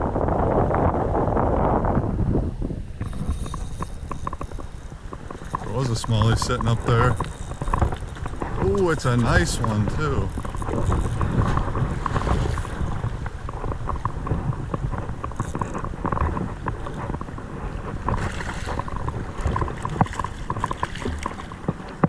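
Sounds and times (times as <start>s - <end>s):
wind buffeting microphone: 0.0s - 22.0s
creek water flowing: 2.8s - 22.0s
splashes and clicks: 3.0s - 22.0s.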